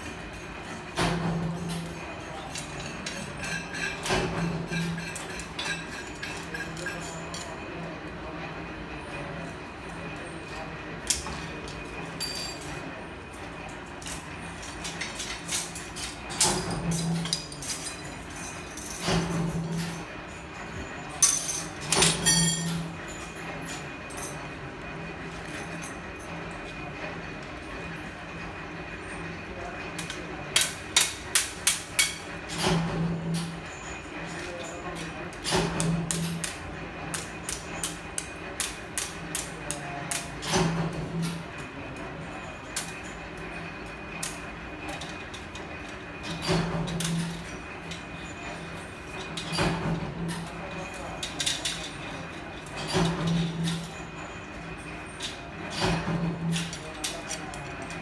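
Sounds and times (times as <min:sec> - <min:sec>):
metal parts clanking: 0:00.0 - 0:07.6, 0:11.0 - 0:12.9, 0:14.0 - 0:24.6, 0:30.0 - 0:58.0.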